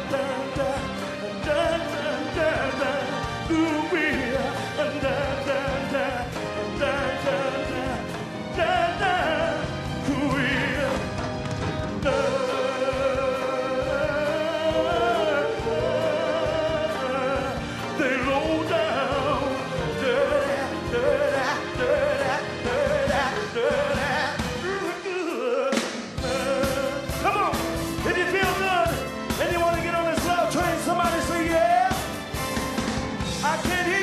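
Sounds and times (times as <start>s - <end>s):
man singing into a microphone: 0.0s - 11.2s, 12.0s - 32.0s, 33.4s - 34.0s
band with drums and electric guitars: 0.0s - 34.0s.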